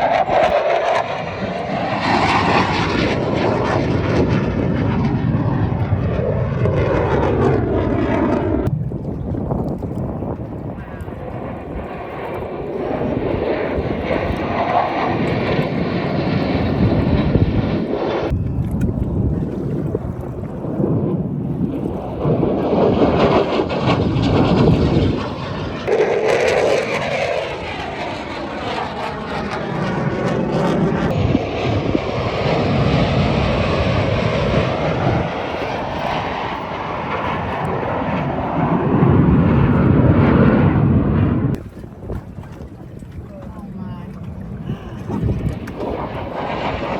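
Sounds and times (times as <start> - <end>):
aircraft engine passing overhead: 0.0 - 46.9
airplane flying past: 0.0 - 46.9.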